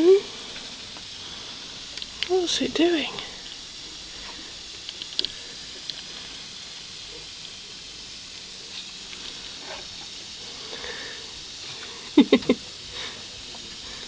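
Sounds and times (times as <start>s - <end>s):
pressure sprayer misting hiss: 0.0s - 14.0s.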